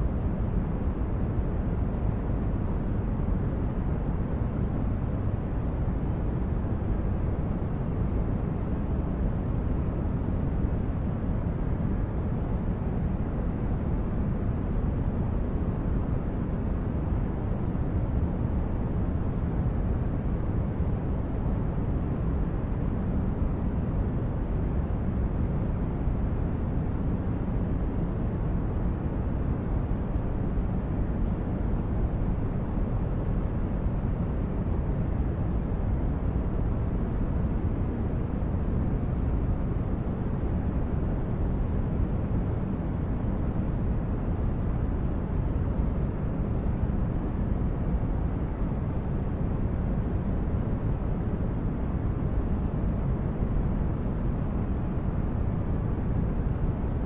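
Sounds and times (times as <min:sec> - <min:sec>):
deep brown noise rumble: 0:00.0 - 0:57.0.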